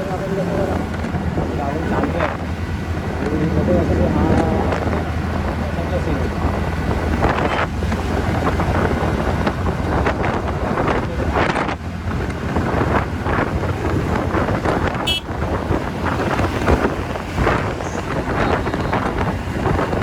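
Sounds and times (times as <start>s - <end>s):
scooter engine and tyre noise: 0.0s - 20.0s
wind rushing over microphone: 0.0s - 20.0s.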